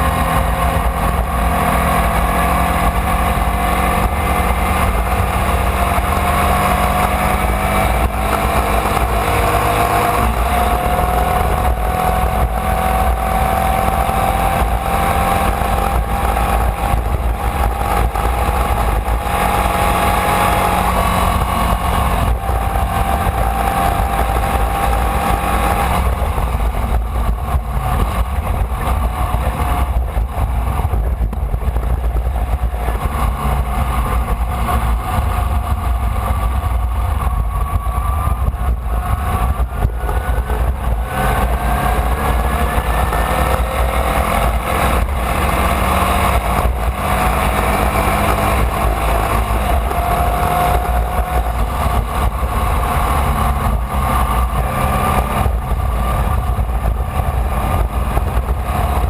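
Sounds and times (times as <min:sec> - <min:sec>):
engine running hard: 0:00.0 - 0:59.0
wind and road noise: 0:00.0 - 0:59.0.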